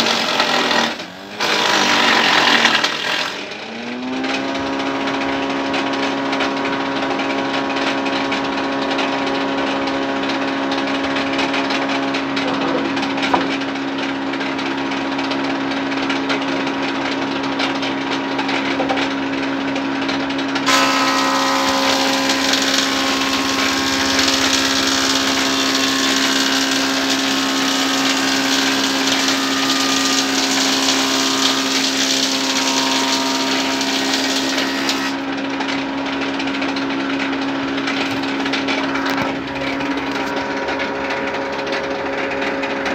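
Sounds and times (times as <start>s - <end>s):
woodworking machine motor hum: 0.0s - 42.9s.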